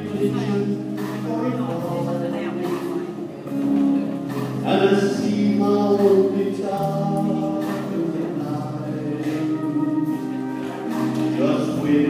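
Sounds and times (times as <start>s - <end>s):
live band with guitars: 0.0s - 12.0s
man singing country song: 0.0s - 12.0s.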